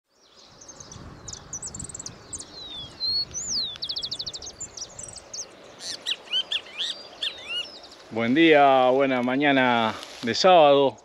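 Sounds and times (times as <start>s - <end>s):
songbirds chirping and whistling: 0.1s - 9.8s.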